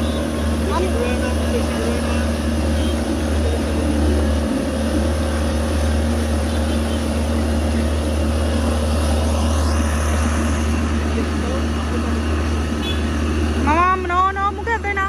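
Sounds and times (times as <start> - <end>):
outboard motor droning: 0.0 - 15.0
propeller wash rushing: 0.0 - 15.0.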